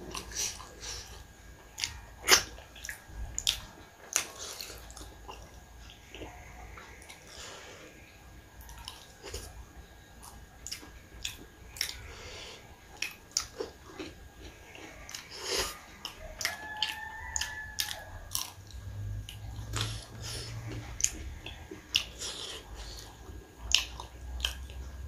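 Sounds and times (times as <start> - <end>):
biting and chewing food: 0.0 - 7.5, 8.6 - 12.1, 12.9 - 25.0.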